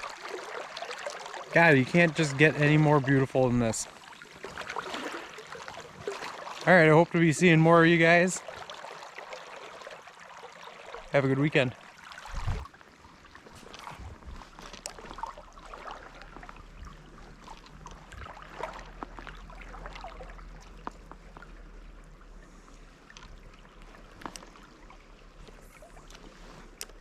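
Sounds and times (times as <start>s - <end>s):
stream water babbling over rocks: 0.0s - 27.0s.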